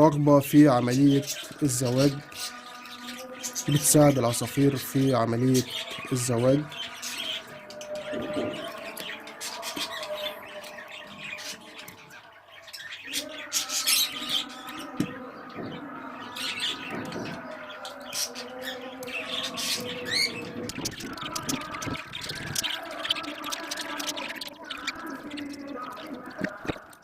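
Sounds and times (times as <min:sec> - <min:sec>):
pet birds chirping and squawking: 0:00.6 - 0:27.0.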